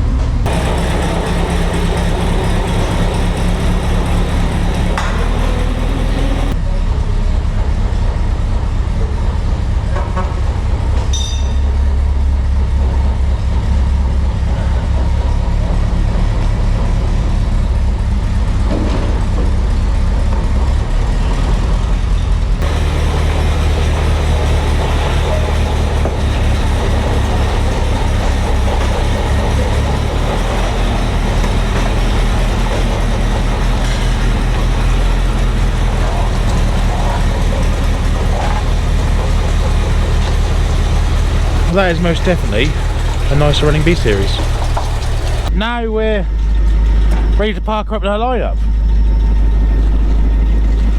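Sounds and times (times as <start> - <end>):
petrol engine running steadily: 0.0 - 50.9.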